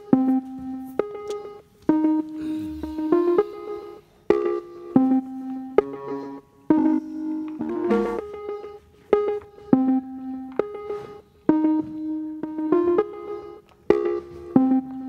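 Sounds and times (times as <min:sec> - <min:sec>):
slow plucked melody: 0:00.0 - 0:15.0.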